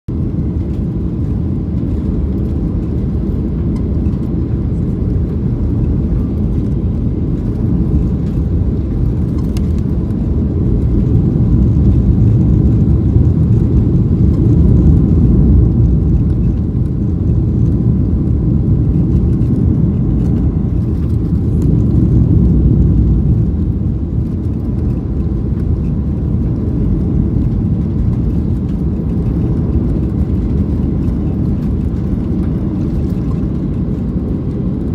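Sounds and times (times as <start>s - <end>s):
jet engine cabin rumble: 0.1s - 34.9s.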